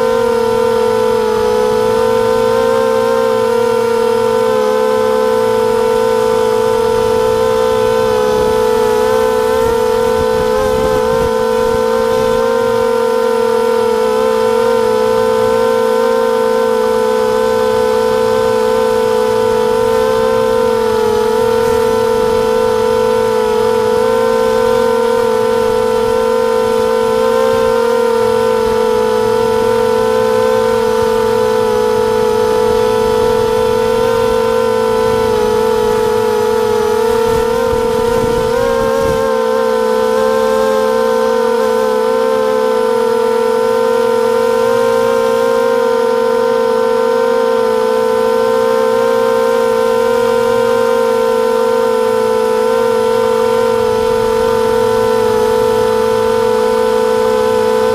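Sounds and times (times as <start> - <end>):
quadcopter motors whining: 0.0 - 57.9.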